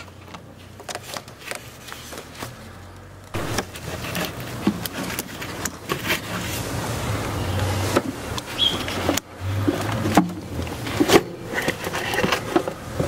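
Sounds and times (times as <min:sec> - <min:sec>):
hands clicking and rubbing hose: 0:00.0 - 0:13.0.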